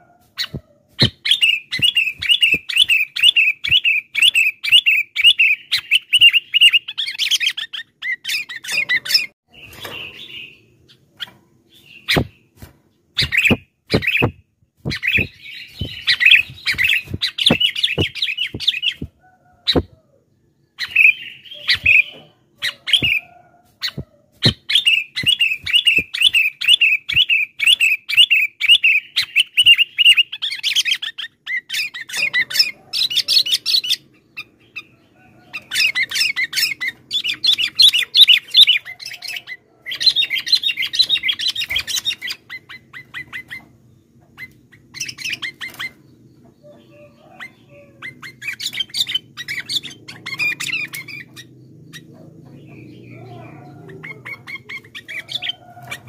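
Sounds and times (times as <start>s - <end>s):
bird chirping: 0.0s - 56.0s
bird chattering song: 0.4s - 56.0s.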